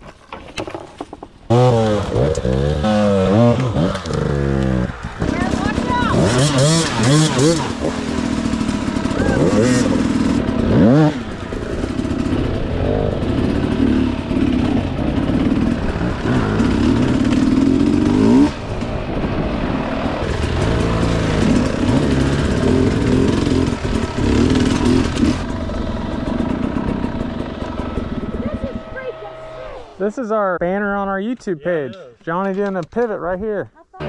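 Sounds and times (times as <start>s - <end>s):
dirt bike engine revving: 1.5s - 31.2s.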